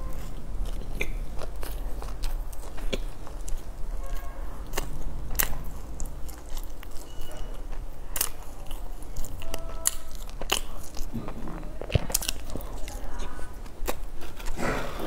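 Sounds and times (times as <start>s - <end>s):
person chewing crusty bun: 0.0s - 15.0s.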